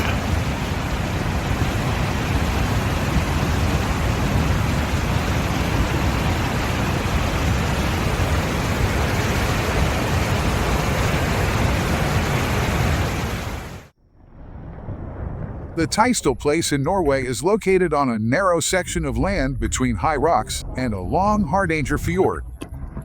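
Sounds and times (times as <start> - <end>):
floodwater rushing: 0.0 - 13.9, 15.3 - 22.6.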